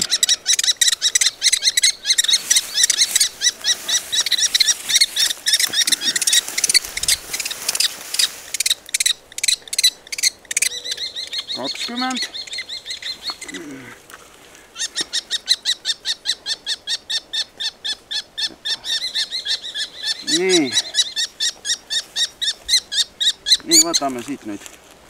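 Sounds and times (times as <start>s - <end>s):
bird chicks calling rapidly: 0.0s - 13.8s, 14.7s - 24.6s.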